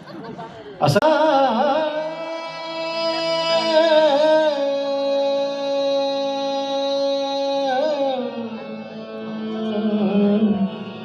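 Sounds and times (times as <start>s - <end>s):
person singing long note: 1.1s - 11.0s.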